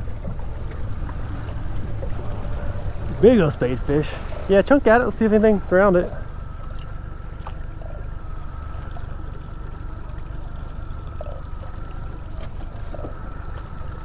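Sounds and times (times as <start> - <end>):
boat motor running at low speed: 0.0 - 14.0.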